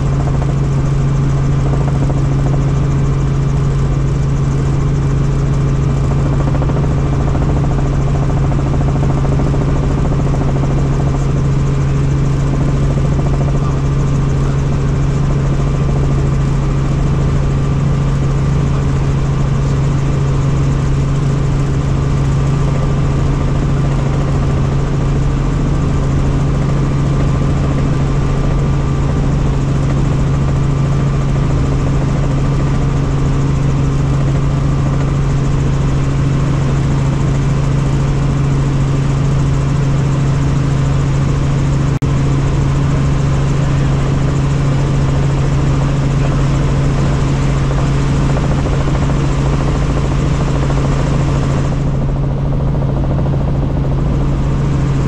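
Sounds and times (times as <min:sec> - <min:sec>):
helicopter engine low hum: 0:00.0 - 0:55.0
helicopter rotors rushing: 0:00.0 - 0:55.0.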